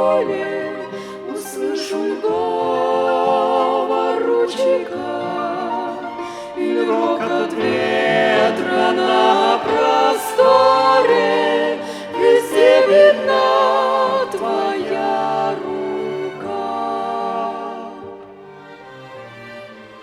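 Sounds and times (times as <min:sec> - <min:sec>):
church ensemble singing a hymn: 0:00.0 - 0:20.0
violin accompaniment: 0:00.0 - 0:20.0.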